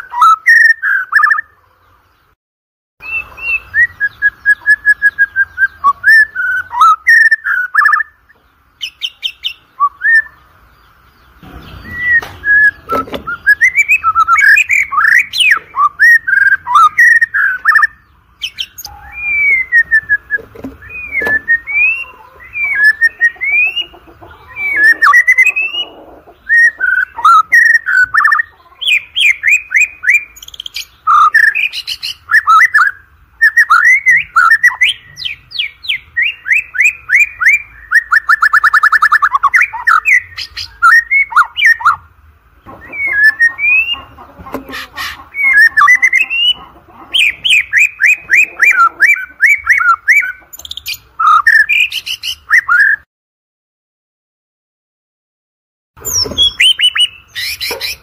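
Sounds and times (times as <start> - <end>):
bird singing whistled phrases: 0.0 - 1.5, 3.0 - 10.4, 11.6 - 42.0, 42.8 - 44.0, 47.2 - 53.1, 56.0 - 58.0.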